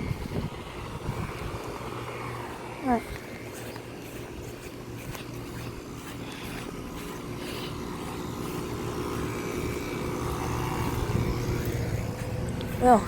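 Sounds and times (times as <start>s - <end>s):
compressor hum: 0.0s - 13.0s
condenser fan whooshing: 0.0s - 13.0s.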